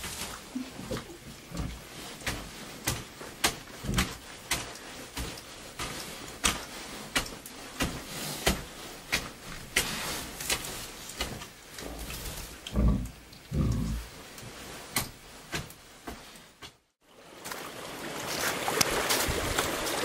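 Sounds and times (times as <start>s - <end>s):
boars rooting in soil: 0.0s - 20.0s.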